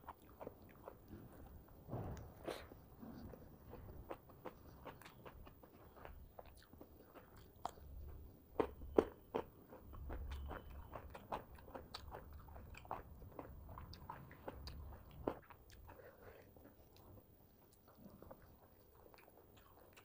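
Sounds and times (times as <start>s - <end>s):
close chewing with mouth clicks: 0.0s - 1.8s, 2.4s - 20.0s.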